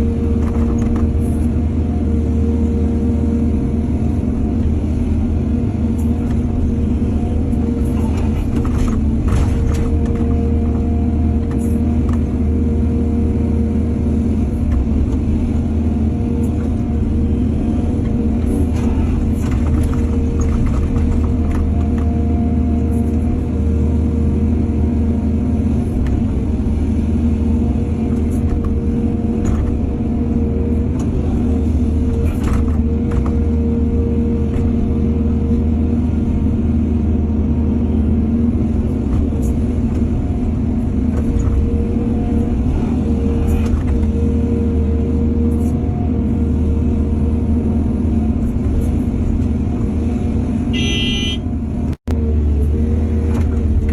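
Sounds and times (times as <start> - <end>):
diesel engine droning: 0.0 - 53.9.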